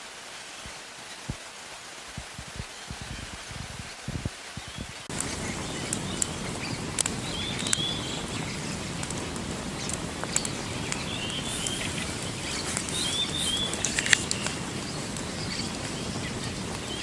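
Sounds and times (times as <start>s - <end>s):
campfire crackling and popping: 2.0s - 17.0s.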